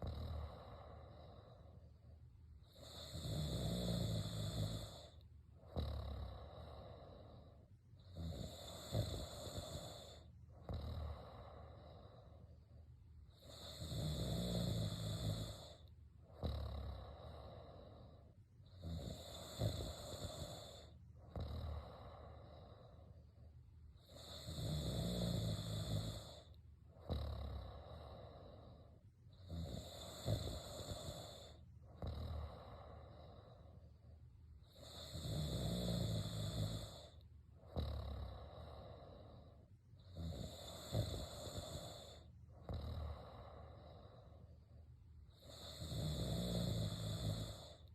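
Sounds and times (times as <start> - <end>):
person snoring: 0.0 - 2.0, 2.6 - 12.6, 13.3 - 23.2, 24.0 - 33.8, 34.6 - 44.6, 45.3 - 47.9
quiet breathing: 0.0 - 47.9.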